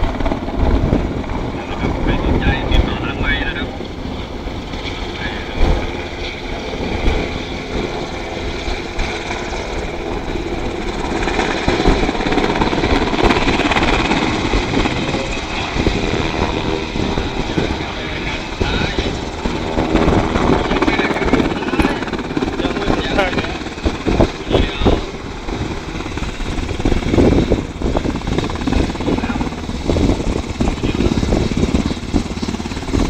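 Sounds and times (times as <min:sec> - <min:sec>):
helicopter rotor beating: 0:00.0 - 0:33.0.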